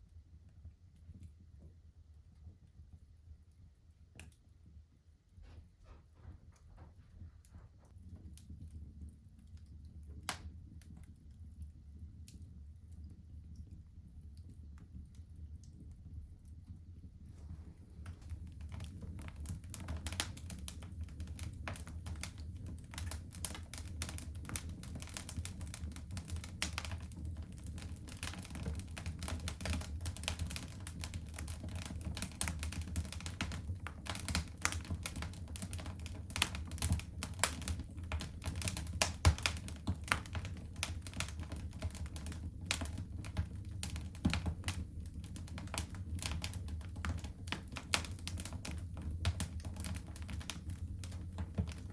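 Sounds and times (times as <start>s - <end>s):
wood fire crackling: 0.1s - 51.9s.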